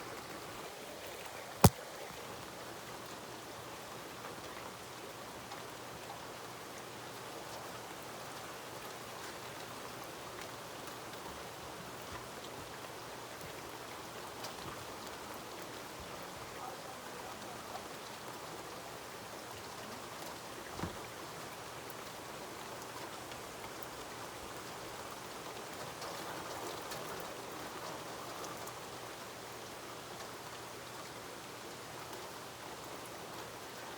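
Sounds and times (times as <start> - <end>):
steady rain pattering: 0.0 - 33.9.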